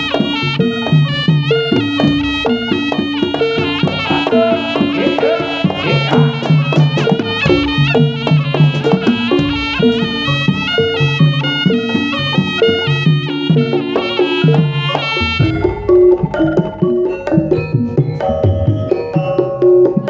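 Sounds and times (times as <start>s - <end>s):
reedy wind instrument melody: 0.0s - 19.7s
drums: 0.0s - 20.0s.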